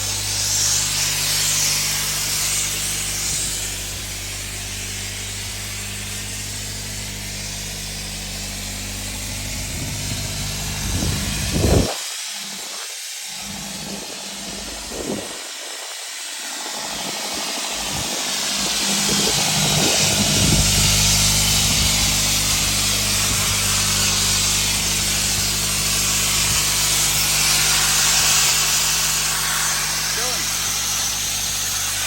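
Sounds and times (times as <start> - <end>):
engine humming: 0.0 - 11.9, 12.6 - 32.0
blasting nozzle hissing: 0.0 - 32.0.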